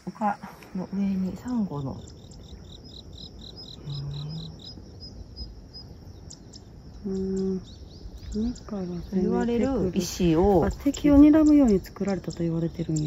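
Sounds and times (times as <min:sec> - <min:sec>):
insects trilling: 0:00.0 - 0:13.0
pulsed insect chirp: 0:00.0 - 0:13.0
bird chirps: 0:00.7 - 0:13.0.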